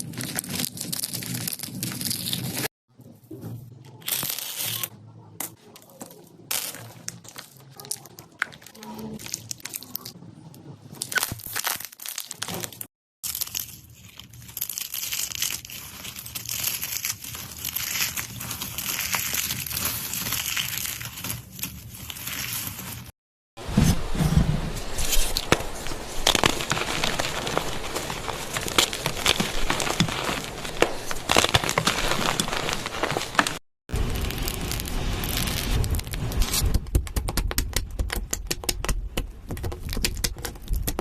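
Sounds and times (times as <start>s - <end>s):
brittle material crunching: 0.0s - 2.7s, 4.0s - 4.9s, 5.5s - 10.2s, 10.9s - 23.1s, 24.9s - 41.0s.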